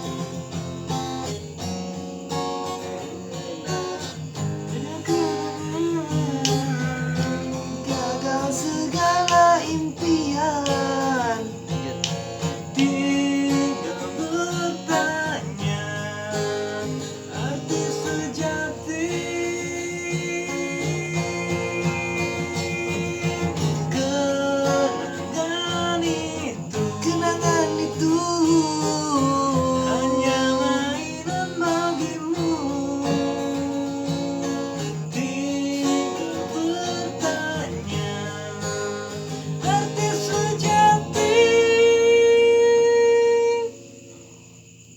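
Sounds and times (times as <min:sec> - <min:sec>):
acoustic guitar music: 0:00.0 - 0:44.9.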